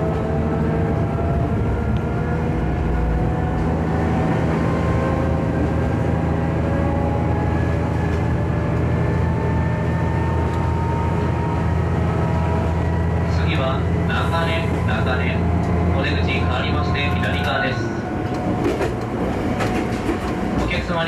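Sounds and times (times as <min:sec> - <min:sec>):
rising engine whine: 0:00.0 - 0:19.5
railcar engine hum: 0:00.0 - 0:21.0.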